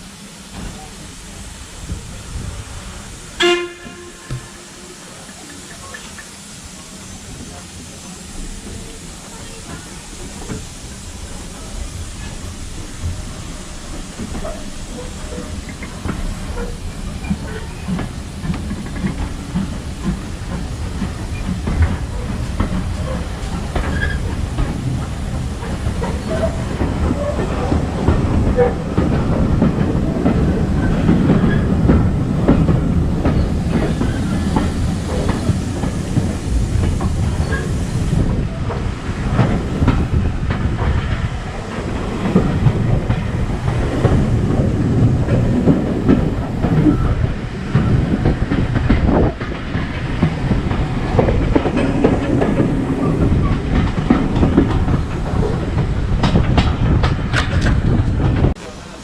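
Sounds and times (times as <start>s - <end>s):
railway carriage rumble: 0.0s - 59.0s
wheels clacking over rail joints: 3.6s - 59.0s.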